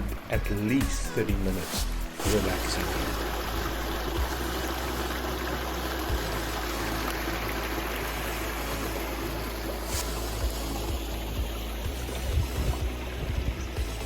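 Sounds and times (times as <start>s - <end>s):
water rushing over rocks: 2.1s - 14.0s.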